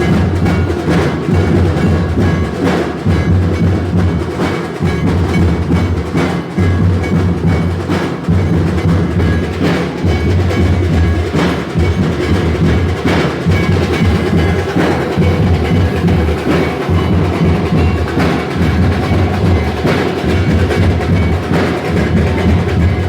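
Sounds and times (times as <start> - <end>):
deep drum beats: 0.0 - 23.0.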